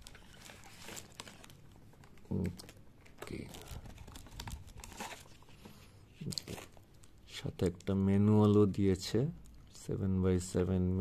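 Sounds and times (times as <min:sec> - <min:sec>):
cardboard and plastic wrap rustling: 0:00.0 - 0:09.1.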